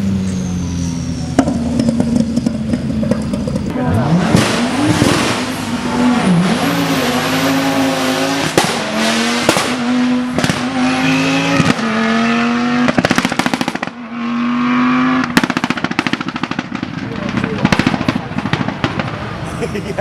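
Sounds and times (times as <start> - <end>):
rally car engine at high revs: 0.0 - 19.7
exhaust popping and crackling: 1.2 - 20.0.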